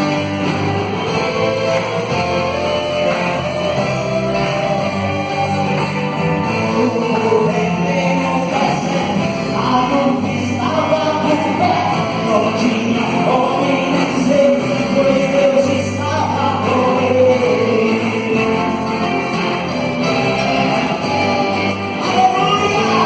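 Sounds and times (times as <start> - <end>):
band with bass and guitar: 0.0 - 23.0.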